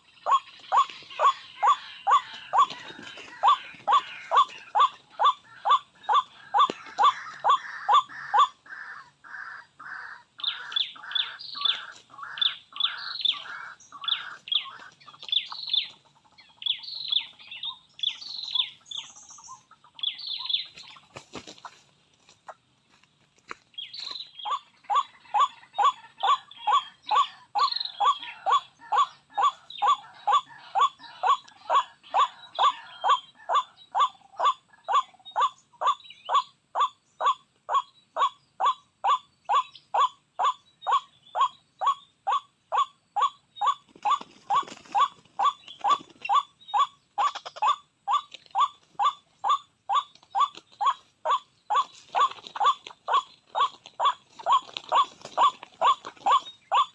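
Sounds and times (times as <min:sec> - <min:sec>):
looped waterhen clucking call: 0:00.0 - 0:22.6, 0:23.7 - 0:56.9
irregular bird calls: 0:00.0 - 0:56.9.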